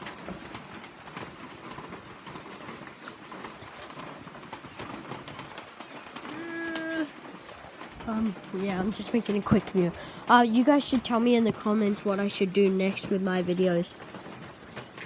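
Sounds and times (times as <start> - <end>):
rain hissing: 0.0 - 15.0
raindrops tapping on surface: 0.0 - 15.0.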